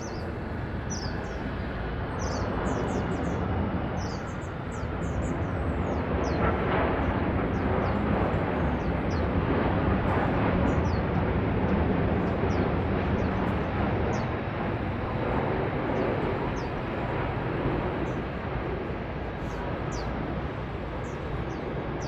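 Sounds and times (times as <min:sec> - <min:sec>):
jet engine rumbling: 0:00.0 - 0:22.0.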